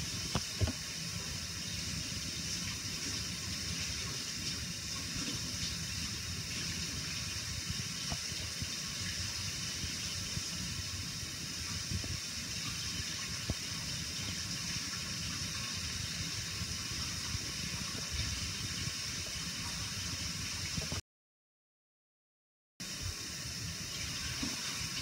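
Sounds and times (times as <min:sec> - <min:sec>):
tap water running into bowl: 0:00.2 - 0:20.0, 0:23.9 - 0:25.0.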